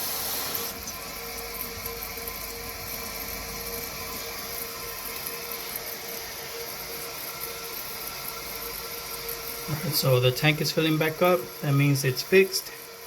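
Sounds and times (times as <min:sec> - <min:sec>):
faint steady whine: 0:00.0 - 0:13.0
toilet tank refilling hiss: 0:00.0 - 0:13.0.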